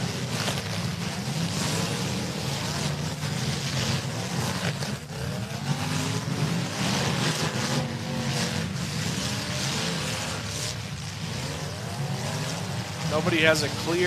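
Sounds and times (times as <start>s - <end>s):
car engines revving: 0.0s - 14.0s
tires spinning: 0.0s - 14.0s.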